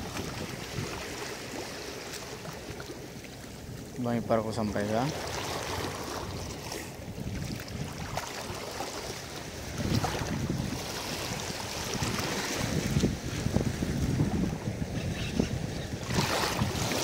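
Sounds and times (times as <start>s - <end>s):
wind buffeting microphone: 0.0s - 1.6s, 4.2s - 17.0s
waves lapping against rocks: 0.0s - 17.0s.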